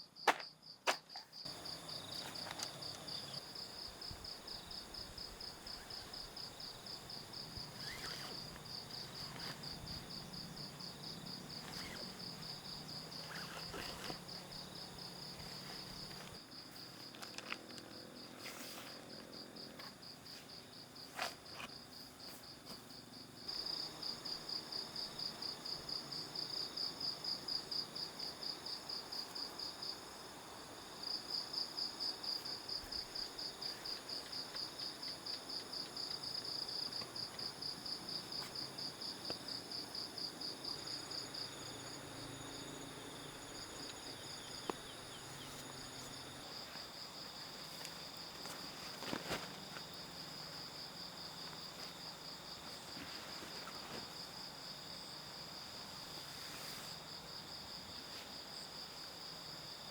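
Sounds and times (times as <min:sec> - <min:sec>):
night insects trilling: 0:00.2 - 0:59.9.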